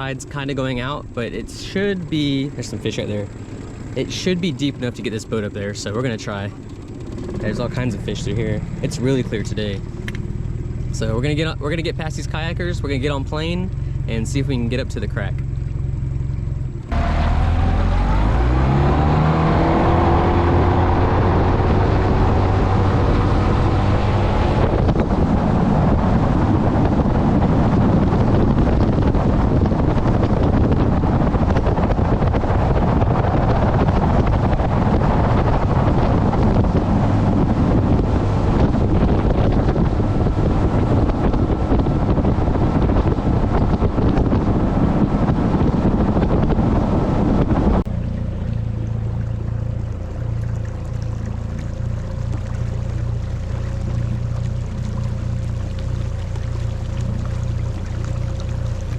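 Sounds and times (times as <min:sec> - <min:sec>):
outboard motor throttling up: 0:00.0 - 0:58.9
wind rushing over microphone: 0:00.0 - 0:58.9.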